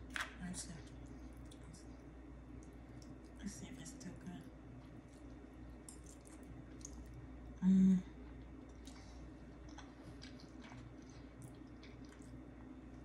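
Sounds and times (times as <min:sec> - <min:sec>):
soft chewing and mouth clicks: 0:00.1 - 0:07.6, 0:08.2 - 0:13.0.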